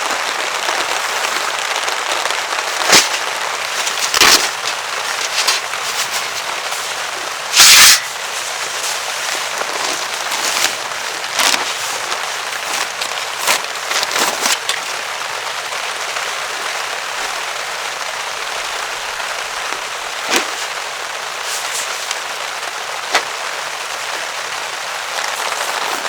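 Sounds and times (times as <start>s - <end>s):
heavy rain on a tarp: 0.0s - 26.0s.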